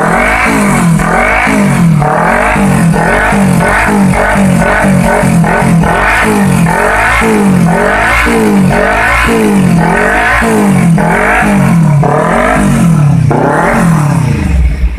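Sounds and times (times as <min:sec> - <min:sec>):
motorcycle engine revving in blips: 0:00.0 - 0:14.9.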